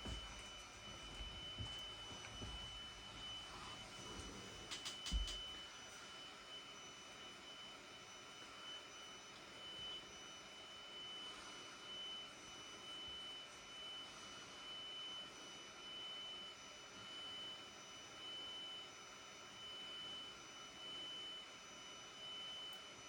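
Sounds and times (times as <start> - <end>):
printer high whine: 0.0 - 23.0.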